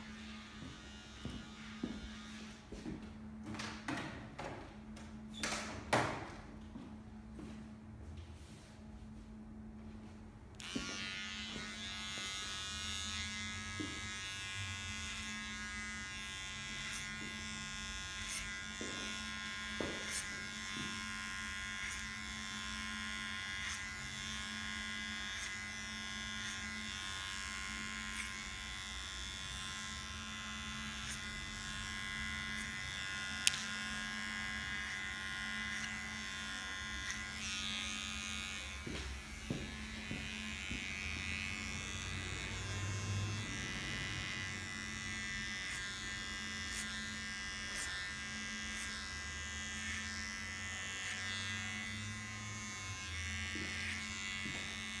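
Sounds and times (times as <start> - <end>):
electric hair clippers buzzing: 0.0 - 6.6, 10.5 - 55.0.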